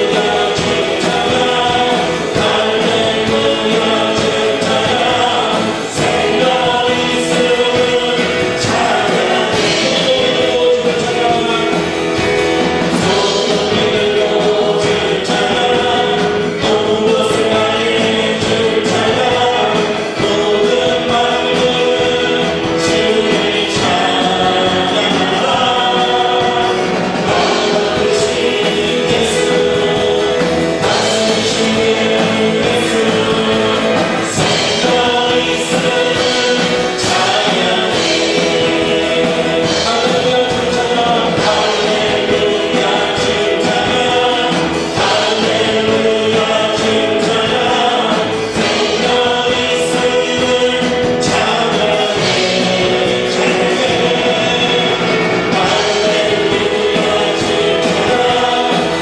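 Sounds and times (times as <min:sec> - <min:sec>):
congregation singing praise song: 0:00.0 - 0:59.0
instrumental accompaniment: 0:00.0 - 0:59.0.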